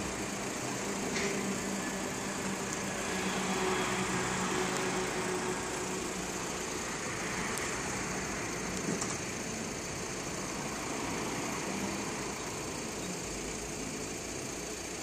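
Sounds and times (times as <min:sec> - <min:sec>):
road noise: 0:00.0 - 0:15.0
vehicle engines humming: 0:00.0 - 0:15.0.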